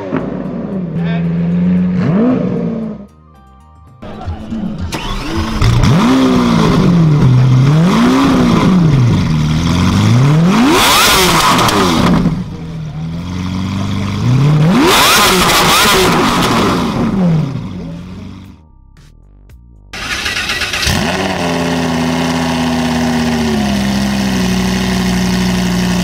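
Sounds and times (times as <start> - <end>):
sports car engine revving: 0.0 - 3.1, 4.1 - 18.5, 20.0 - 26.0.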